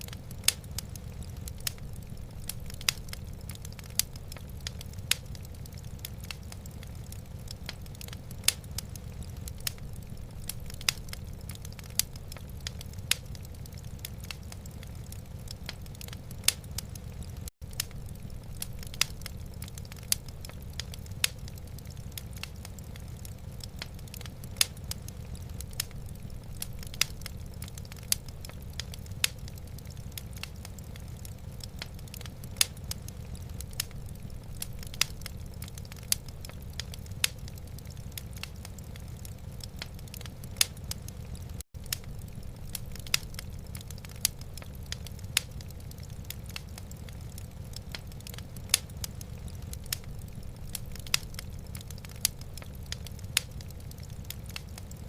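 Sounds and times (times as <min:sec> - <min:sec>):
fire popping: 0:00.0 - 0:55.0
low fire rumble: 0:00.0 - 0:55.0
wood fire crackling: 0:00.0 - 0:55.0.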